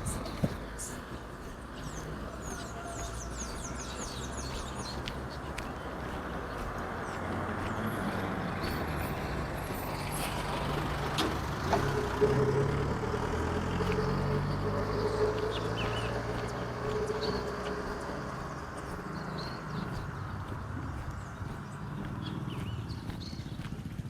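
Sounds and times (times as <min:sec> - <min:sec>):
birds chirping: 0:00.0 - 0:24.0
vehicle engine running: 0:00.0 - 0:24.0.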